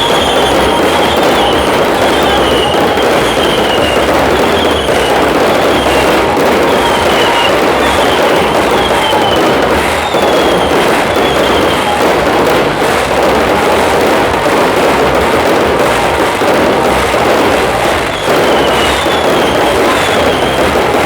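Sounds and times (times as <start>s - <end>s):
falling firework whistles: 0.0s - 21.0s
fireworks bangs and crackle: 0.0s - 21.0s.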